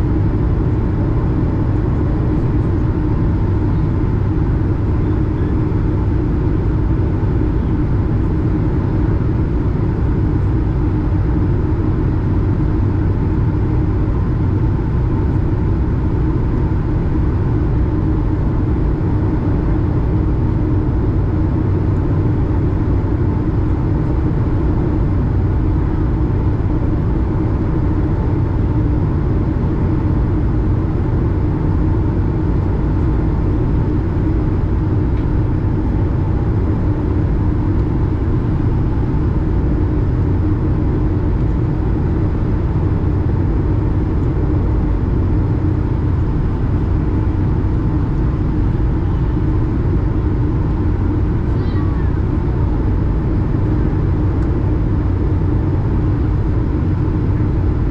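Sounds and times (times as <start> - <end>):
airflow rumble in aircraft cabin: 0.0 - 57.9
jet engines: 0.0 - 57.9
steady humming tones: 0.0 - 57.9.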